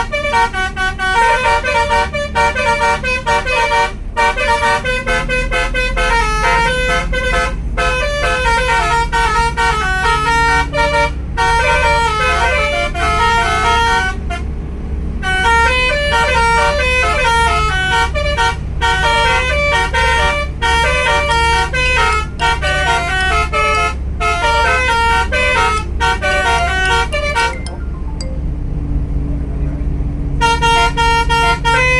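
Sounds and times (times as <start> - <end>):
bus horn playing a melody: 0.0 - 28.9, 30.3 - 31.9
low rumble of bus: 0.0 - 31.9.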